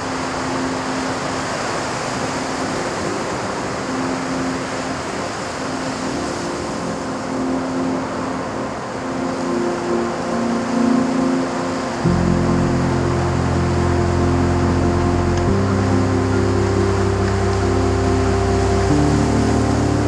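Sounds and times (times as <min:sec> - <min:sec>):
heavy surf: 0:00.0 - 0:20.0
soft sustained music notes: 0:00.0 - 0:20.0
wind: 0:00.0 - 0:20.0.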